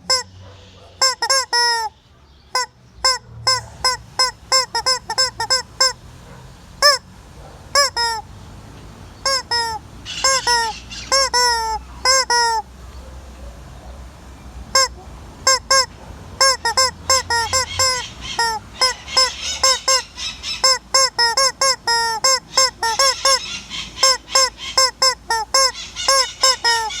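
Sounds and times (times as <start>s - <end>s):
chicken calling: 0.0s - 6.0s, 6.8s - 7.1s, 7.7s - 8.3s, 9.2s - 12.8s, 14.7s - 27.0s.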